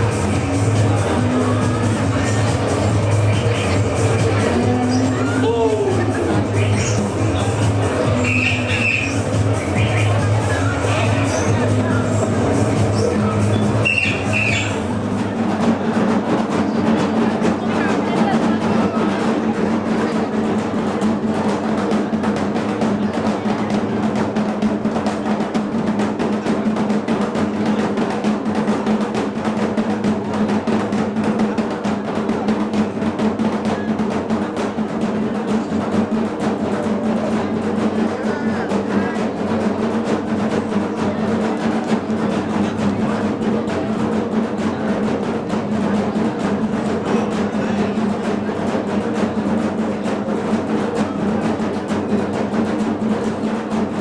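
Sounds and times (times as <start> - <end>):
rapid continuous drumming: 0.0 - 54.0.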